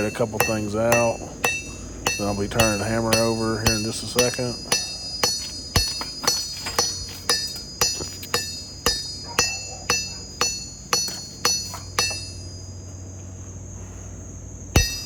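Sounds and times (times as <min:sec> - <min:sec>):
hammer striking hot steel on anvil: 0:00.0 - 0:12.6, 0:14.8 - 0:15.0.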